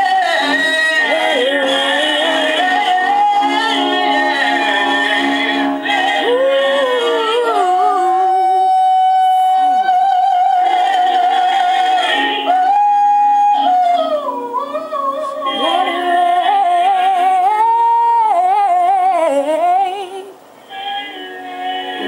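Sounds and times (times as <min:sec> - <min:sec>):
solo voice singing gospel: 0:00.0 - 0:22.0.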